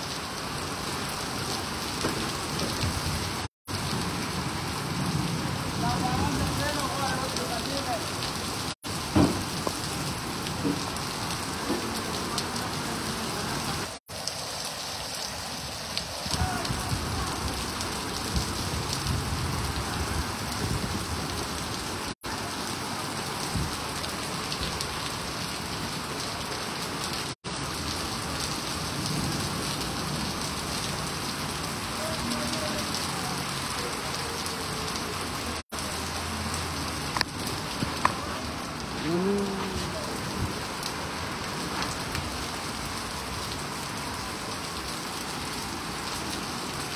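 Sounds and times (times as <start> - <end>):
heavy rain on flooded street: 0.0 - 46.9.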